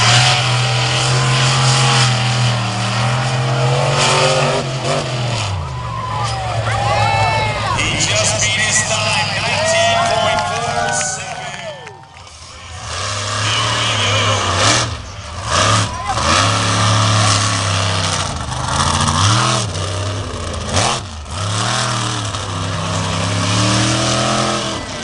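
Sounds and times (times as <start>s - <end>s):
truck engine revving hard: 0.0s - 25.0s.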